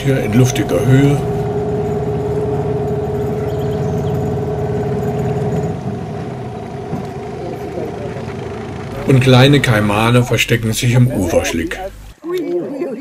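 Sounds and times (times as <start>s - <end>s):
higher motor drone: 0.0s - 12.2s
outboard motor low hum: 0.0s - 12.2s.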